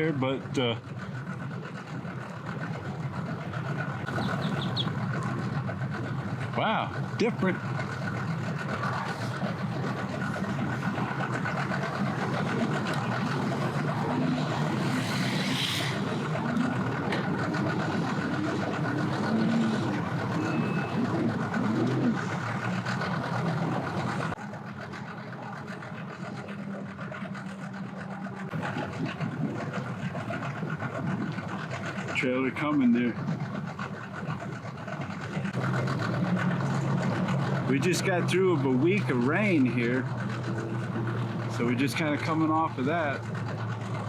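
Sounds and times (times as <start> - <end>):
engines humming: 0.0 - 44.0.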